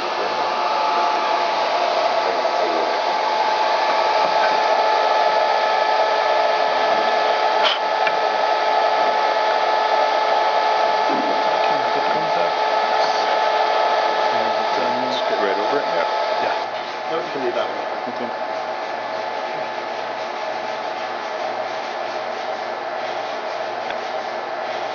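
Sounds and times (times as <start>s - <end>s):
machine whining tones: 0.0s - 20.2s
rushing machine noise: 0.0s - 24.9s.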